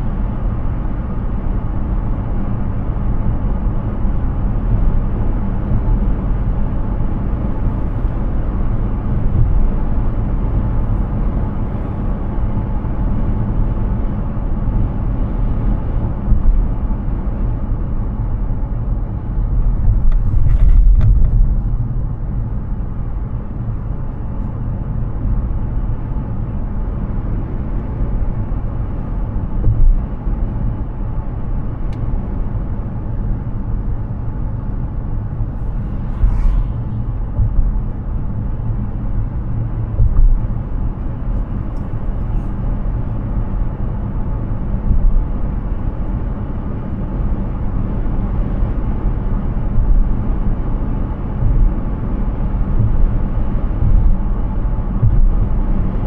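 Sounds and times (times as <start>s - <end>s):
car road rumble and tyre noise: 0.0s - 56.0s.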